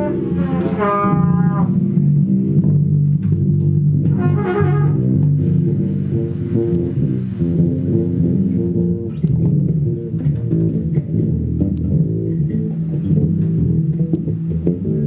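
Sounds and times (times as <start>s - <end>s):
bass guitar plucked notes: 0.0s - 15.0s.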